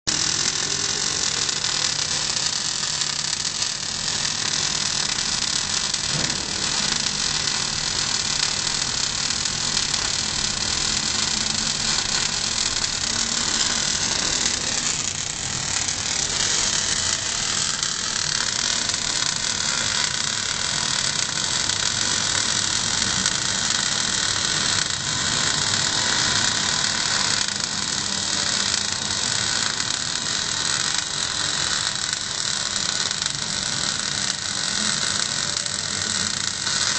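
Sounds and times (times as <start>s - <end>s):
welding arc crackling: 0.1s - 36.9s.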